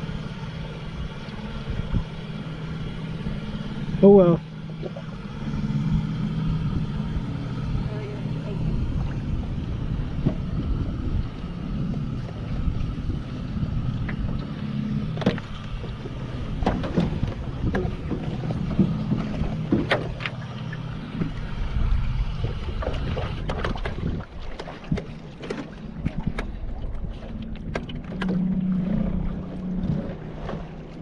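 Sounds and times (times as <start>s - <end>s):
low motor hum: 0.0s - 31.0s.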